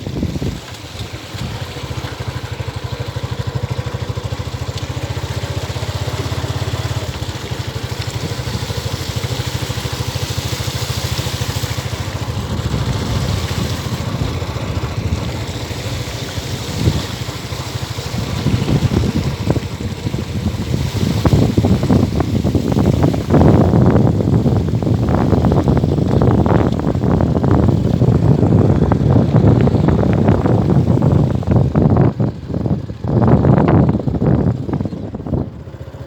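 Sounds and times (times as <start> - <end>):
engine running steadily: 0.0 - 36.0.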